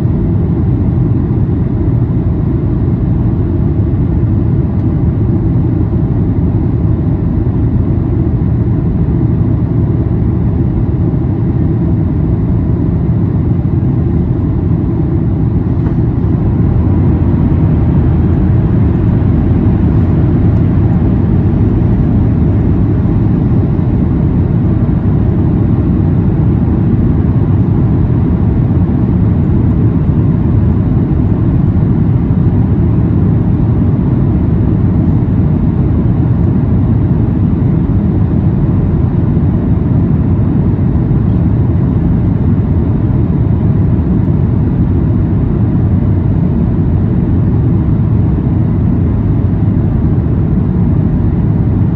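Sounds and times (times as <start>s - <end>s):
airplane cabin rumble: 0.0s - 51.9s.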